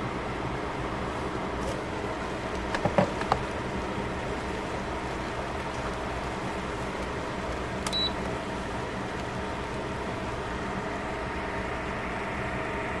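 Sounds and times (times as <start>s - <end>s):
vegetables simmering hiss: 1.0s - 12.2s.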